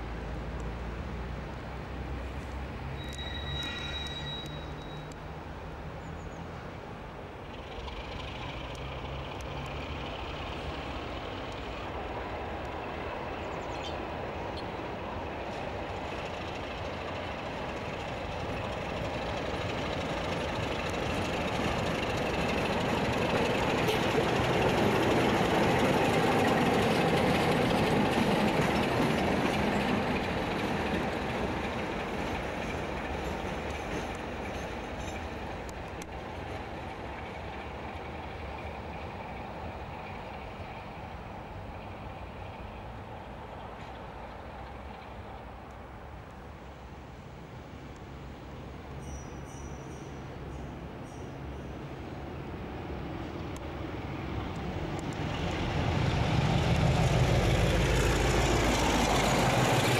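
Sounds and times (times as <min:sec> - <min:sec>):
diesel locomotive passing: 0:00.0 - 0:59.9
train wheels on rails: 0:02.0 - 0:05.3, 0:07.3 - 0:46.9, 0:48.8 - 0:59.9.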